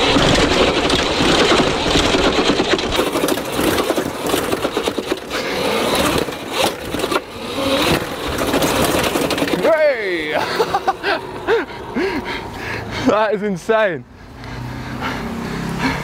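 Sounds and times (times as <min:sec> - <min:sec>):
electric bike rattling over stairs: 0:00.0 - 0:13.7.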